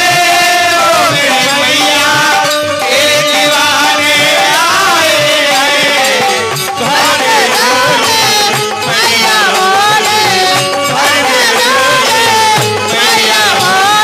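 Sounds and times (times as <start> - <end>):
drum beat: 0.0 - 14.0
harmonium: 0.0 - 14.0
man singing: 0.0 - 14.0.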